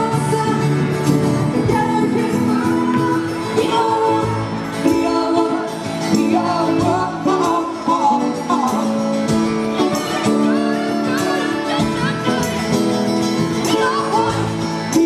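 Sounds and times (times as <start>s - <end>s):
accompanying guitar: 0.0s - 15.0s.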